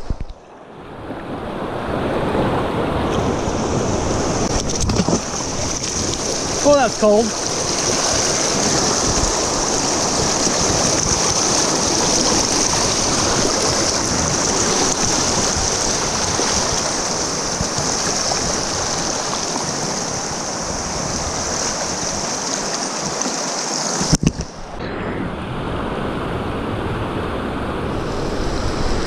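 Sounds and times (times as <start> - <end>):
river water rushing past boat hull: 0.0 - 29.0.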